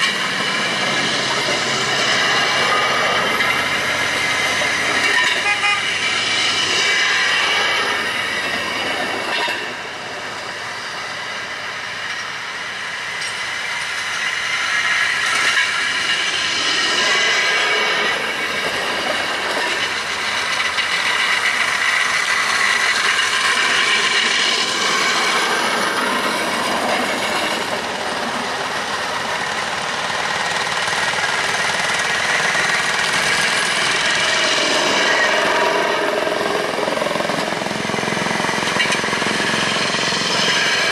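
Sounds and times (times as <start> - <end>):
rail speeders running on track: 0.0 - 40.9.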